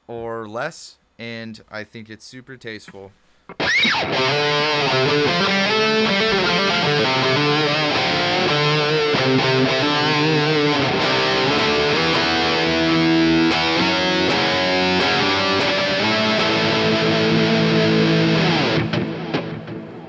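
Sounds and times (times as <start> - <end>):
distorted electric guitar: 3.5 - 20.0.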